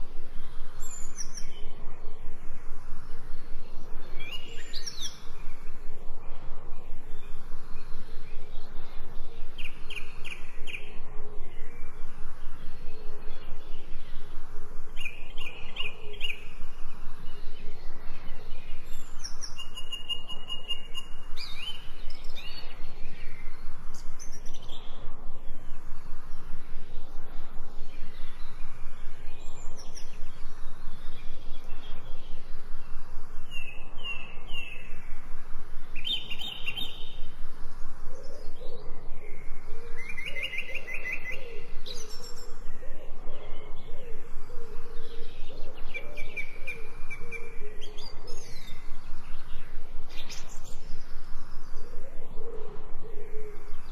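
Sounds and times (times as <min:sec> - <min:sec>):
background hiss: 0:00.0 - 0:53.9
birds chirping and trilling: 0:00.0 - 0:53.9
low bird calls: 0:00.0 - 0:53.9.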